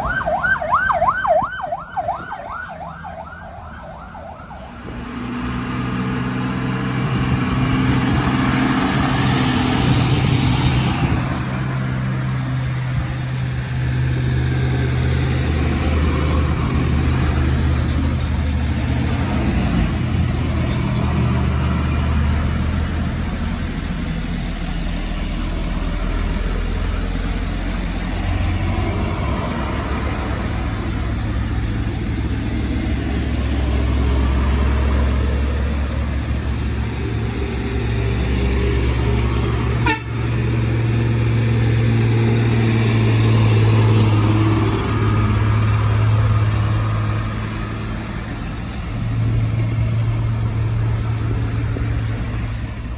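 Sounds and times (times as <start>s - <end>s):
heavy diesel truck engines droning: 0.0s - 52.9s.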